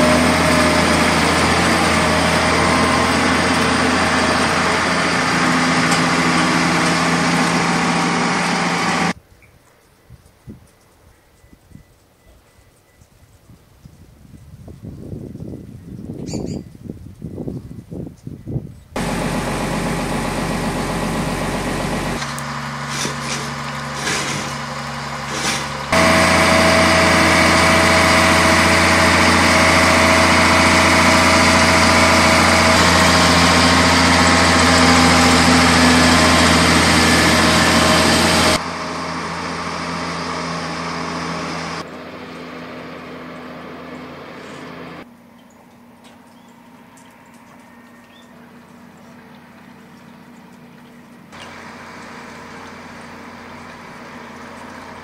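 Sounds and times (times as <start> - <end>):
diesel engine running: 0.0 - 9.2, 19.0 - 55.0.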